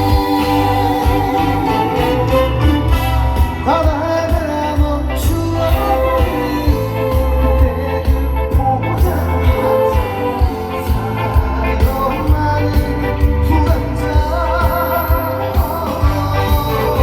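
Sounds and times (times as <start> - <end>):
live band music: 0.0 - 17.0
pulsing bass beat: 0.0 - 17.0.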